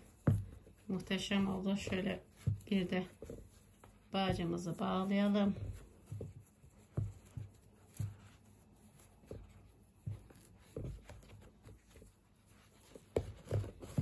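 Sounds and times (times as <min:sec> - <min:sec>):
hands tying yarn laces: 0:00.0 - 0:14.0.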